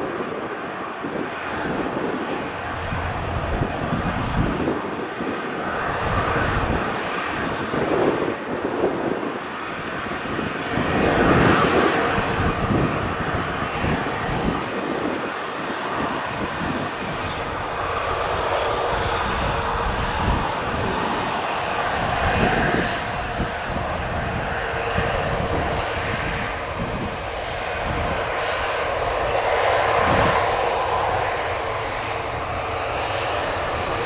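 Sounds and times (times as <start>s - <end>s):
aircraft engines running: 0.0s - 34.0s
wind buffeting microphone: 0.0s - 34.0s.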